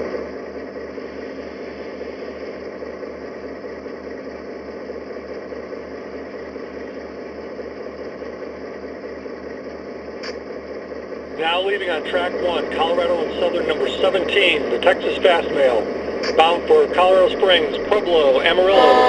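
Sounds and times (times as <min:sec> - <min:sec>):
diesel locomotive engine idling: 0:00.0 - 0:19.0.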